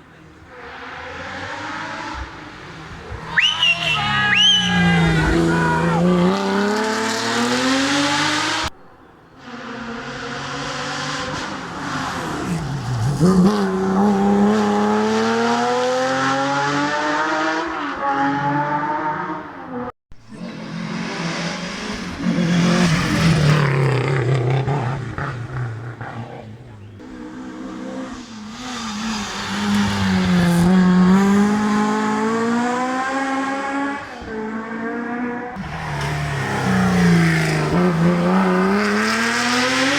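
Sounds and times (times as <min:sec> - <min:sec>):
rally car engines revving past: 0:00.0 - 0:08.8, 0:09.4 - 0:39.9.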